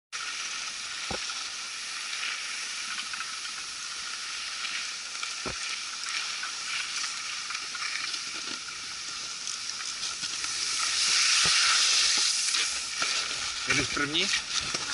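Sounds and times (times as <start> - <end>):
gear sliding over snow: 1.4 - 14.9.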